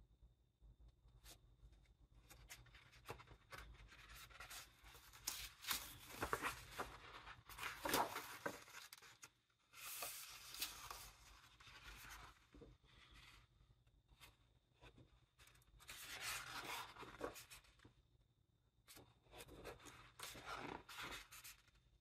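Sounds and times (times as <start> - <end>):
book pages rustling: 2.2 - 13.5, 14.2 - 17.8, 18.9 - 21.8.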